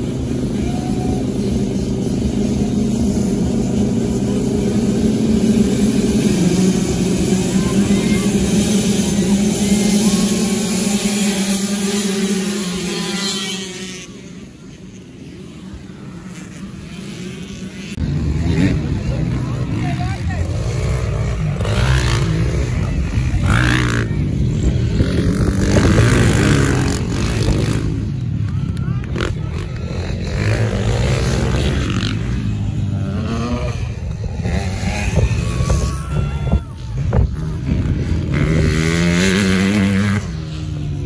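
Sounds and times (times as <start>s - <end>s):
dirt bike engines: 0.0s - 41.0s.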